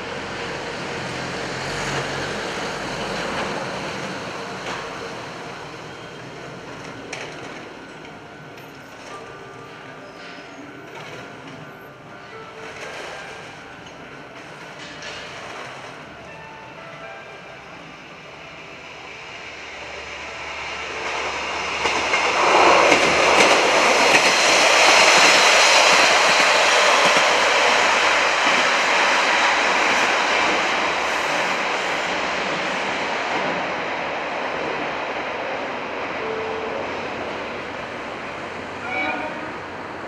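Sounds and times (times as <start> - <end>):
diesel train passing: 0.0 - 40.0.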